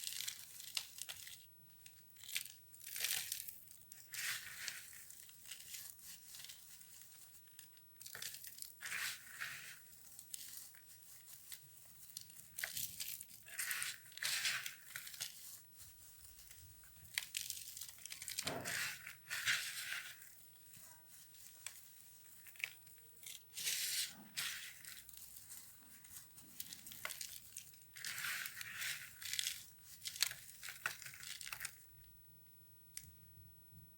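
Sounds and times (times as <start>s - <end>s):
brittle soap crunching: 0.0s - 32.1s, 32.9s - 33.1s.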